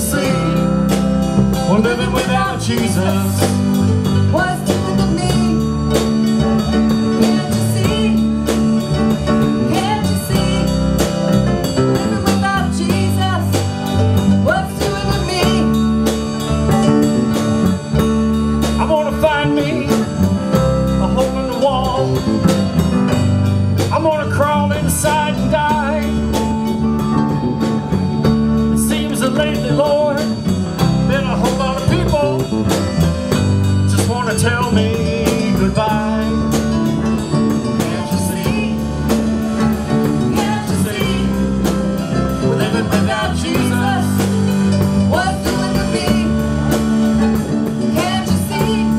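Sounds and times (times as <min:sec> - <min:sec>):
bass guitar: 0:00.0 - 0:48.9
drum kit: 0:00.0 - 0:48.9.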